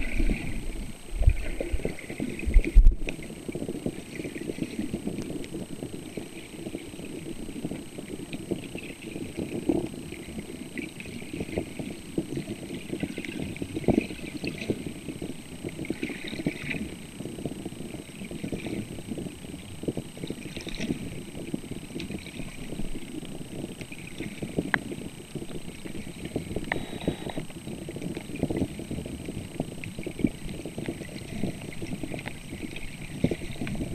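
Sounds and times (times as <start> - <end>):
dense small clicks and crackles: 0.0 - 33.9
underwater low rumble: 0.0 - 33.9.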